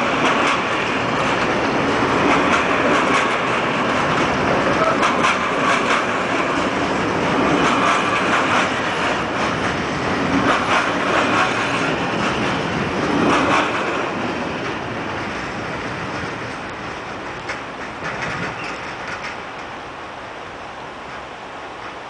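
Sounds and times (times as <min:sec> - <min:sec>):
wheels clacking over rail joints: 0:00.0 - 0:20.0
freight train rumbling past: 0:00.0 - 0:22.0.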